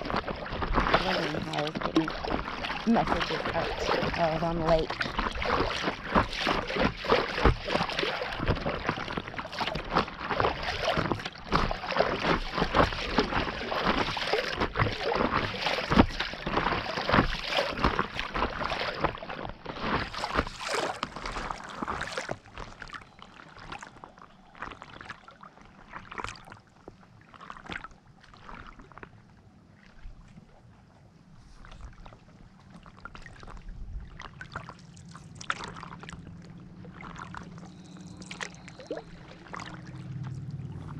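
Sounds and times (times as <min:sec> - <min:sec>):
water splashing around paddleboard: 0:00.0 - 0:40.9.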